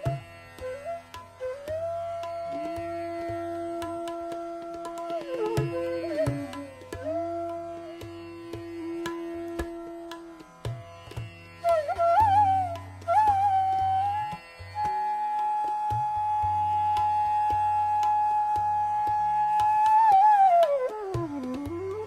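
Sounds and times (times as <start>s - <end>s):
bansuri flute melody: 0.0s - 22.0s
tabla strokes: 0.0s - 22.0s.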